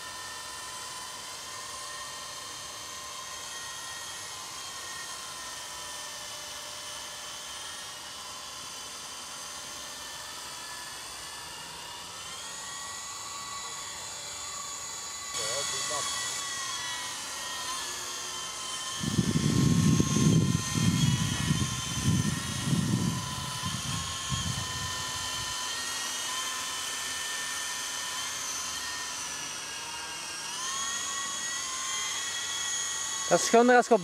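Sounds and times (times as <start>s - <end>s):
model helicopter motor whine: 0.0s - 34.0s.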